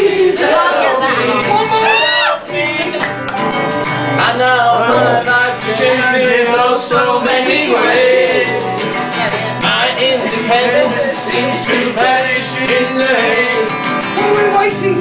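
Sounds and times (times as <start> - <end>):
man singing: 0.0 - 3.1, 4.0 - 15.0
acoustic guitar strumming: 0.2 - 15.0.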